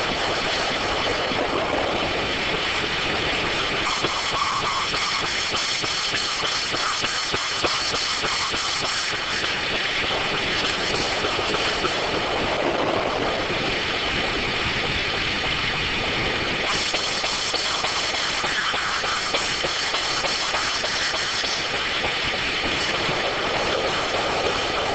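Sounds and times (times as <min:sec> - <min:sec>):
sawmill running: 0:00.0 - 0:24.9.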